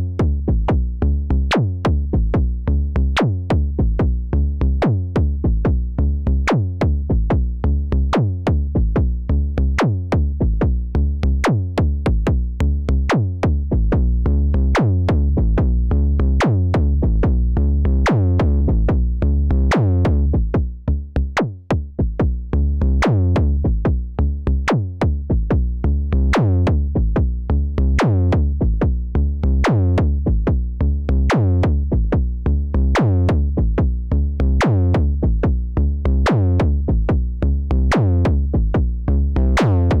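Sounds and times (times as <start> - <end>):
deep booming bass line: 0.0 - 40.0.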